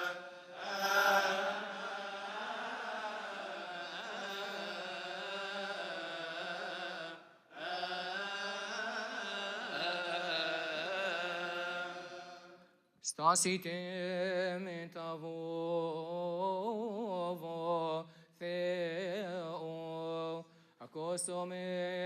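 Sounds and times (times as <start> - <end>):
liturgical chant: 0.0 - 22.0.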